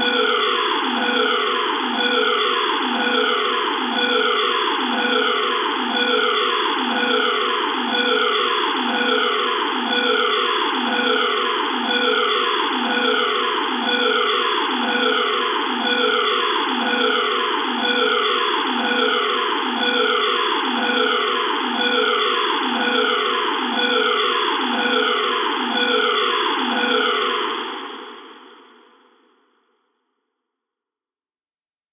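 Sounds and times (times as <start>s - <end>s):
electronic alarm falling tone: 0.0s - 28.2s.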